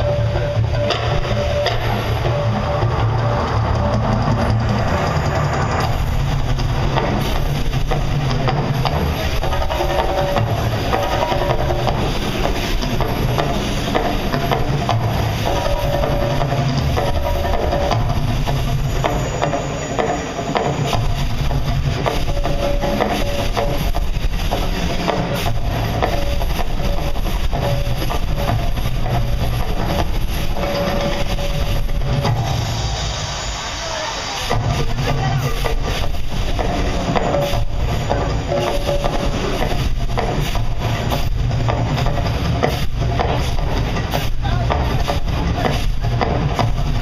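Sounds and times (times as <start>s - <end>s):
loud low rumble: 0.0s - 19.8s, 20.4s - 47.0s.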